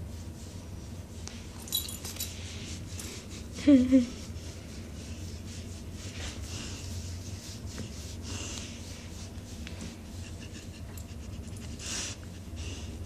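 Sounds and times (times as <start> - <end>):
dog breathing hissily: 0.4 - 13.0.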